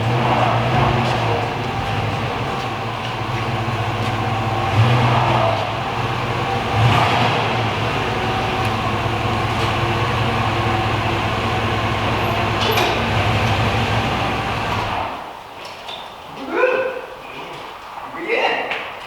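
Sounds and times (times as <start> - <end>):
motor vehicle engine droning: 0.0 - 15.3.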